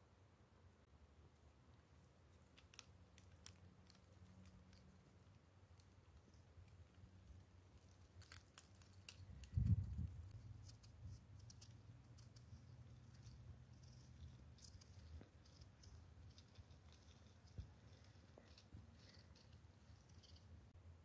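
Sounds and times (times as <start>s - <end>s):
knife peeling fruit: 2.3s - 20.6s.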